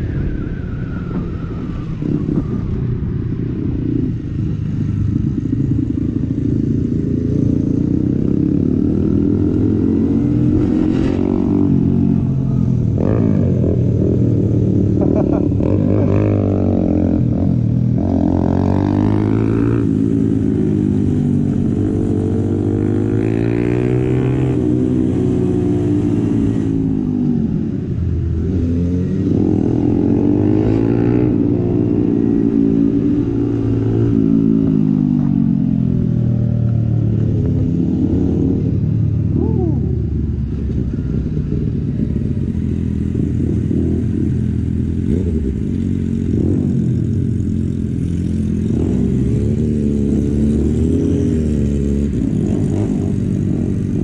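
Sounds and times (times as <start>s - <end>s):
motorcycle engine accelerating: 0.0s - 54.0s
wind rumble on microphone: 0.0s - 54.0s.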